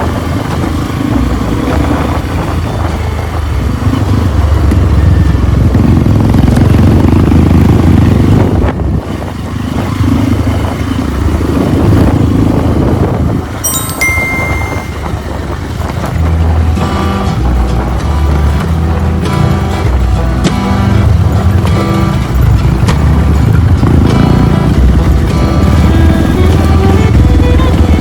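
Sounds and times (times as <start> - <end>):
motorcycle engine running: 0.0 - 13.6, 14.5 - 28.0.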